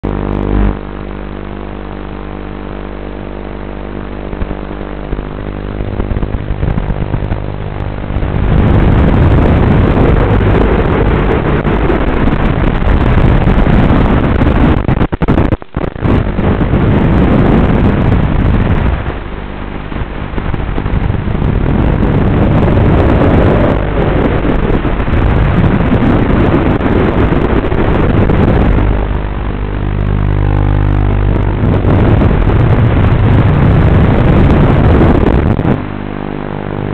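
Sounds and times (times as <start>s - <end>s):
electric motor hum: 0.0s - 36.9s
propellers and wind rushing: 0.0s - 36.9s.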